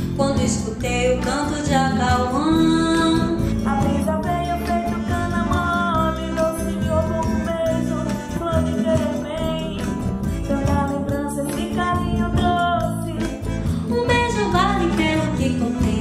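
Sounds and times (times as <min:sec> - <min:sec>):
accordion: 0:00.0 - 0:16.0
acoustic guitar: 0:00.0 - 0:16.0
bass guitar: 0:00.0 - 0:16.0
hand percussion: 0:00.0 - 0:16.0
women singing: 0:00.1 - 0:16.0.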